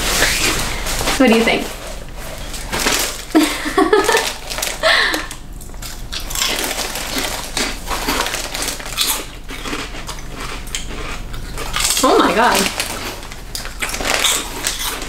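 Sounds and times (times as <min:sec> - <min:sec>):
crisp snacks crunching: 0:00.1 - 0:15.0
plastic snack bag crinkling: 0:00.1 - 0:15.0.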